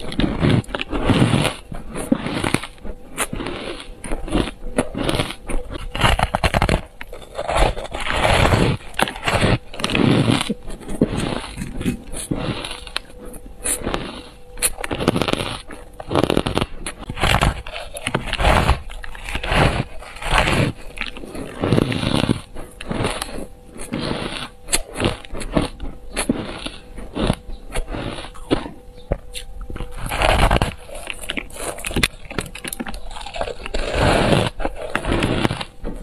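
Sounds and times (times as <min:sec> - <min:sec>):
chewing and crunching ice: 0:00.0 - 0:36.0.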